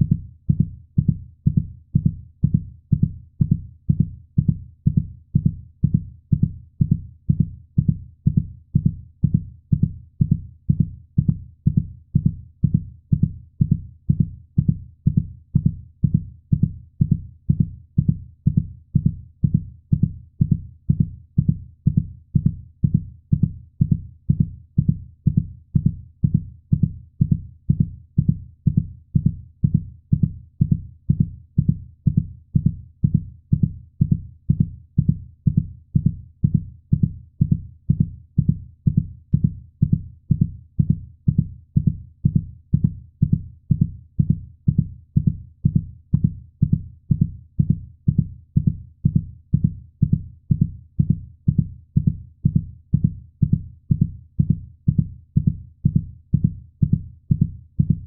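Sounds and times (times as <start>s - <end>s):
heartbeat thumps: 0.0s - 58.0s.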